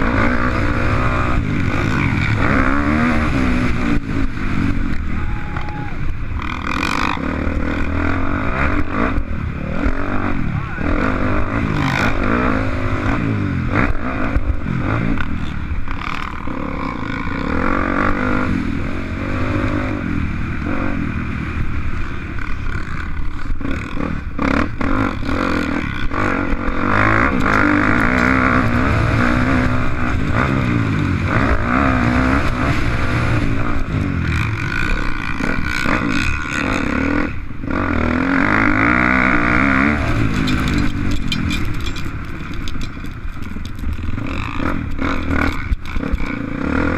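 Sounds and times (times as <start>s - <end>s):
bike rattling and clatter: 0.0s - 10.2s, 11.4s - 18.6s, 21.6s - 46.9s
motocross bike engine revving: 0.0s - 46.9s.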